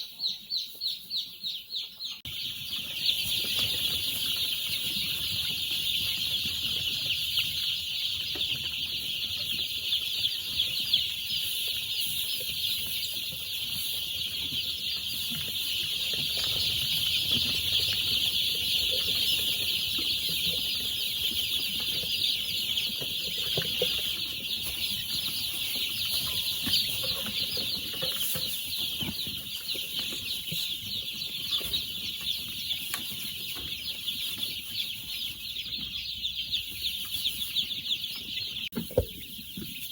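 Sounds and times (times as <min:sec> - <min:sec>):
chicks peeping and chirping: 0:00.0 - 0:39.9.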